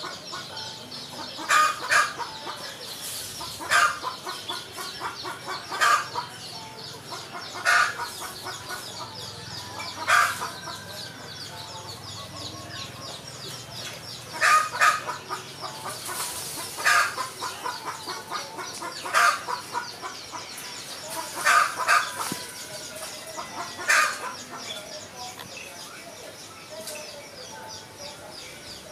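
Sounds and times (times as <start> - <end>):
chickens clucking: 0.0 - 28.9
high chirping: 0.0 - 28.9.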